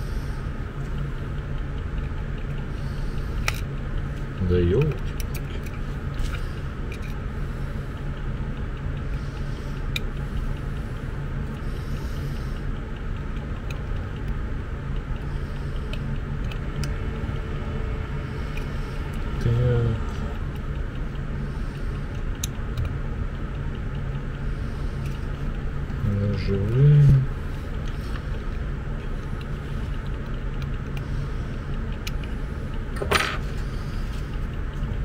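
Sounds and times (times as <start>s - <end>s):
low background rumble: 0.0s - 35.0s.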